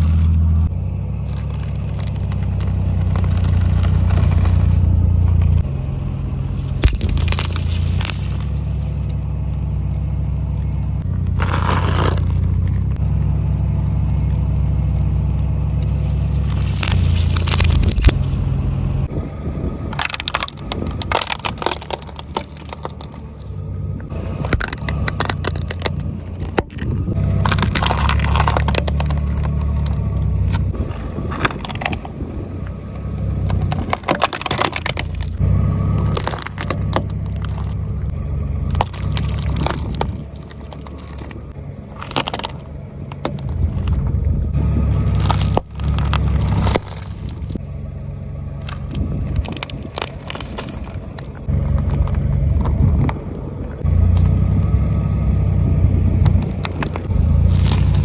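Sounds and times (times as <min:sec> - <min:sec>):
car tyres rumbling: 0:00.0 - 0:58.0
objects crunching under wheels: 0:00.0 - 0:58.0.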